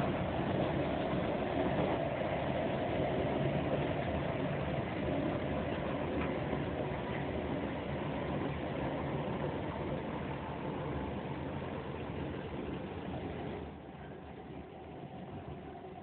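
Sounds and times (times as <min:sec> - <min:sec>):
train carriage running noise: 0:00.0 - 0:16.0
wheels on the track: 0:00.0 - 0:16.0.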